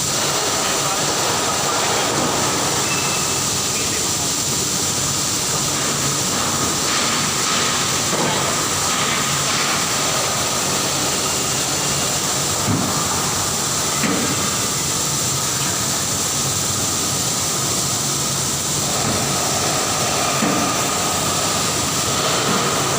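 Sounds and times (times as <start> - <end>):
high machine whine: 0.0 - 22.9
welding machinery hiss and hum: 0.0 - 22.9.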